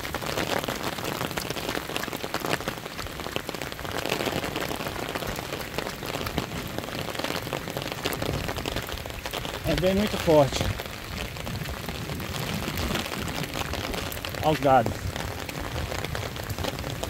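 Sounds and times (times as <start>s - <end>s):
rain on paved road: 0.0s - 17.0s.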